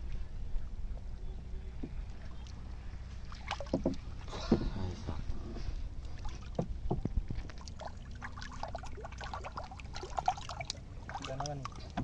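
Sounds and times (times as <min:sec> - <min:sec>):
fish thrashing in shallow water: 0:02.2 - 0:12.0.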